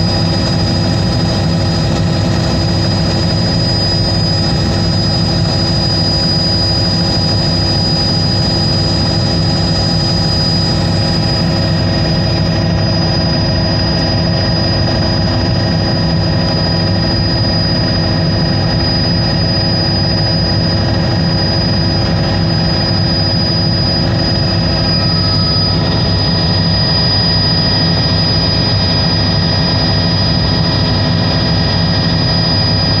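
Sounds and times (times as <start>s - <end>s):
aircraft engine drone: 0.0s - 33.0s
high whine: 0.0s - 33.0s.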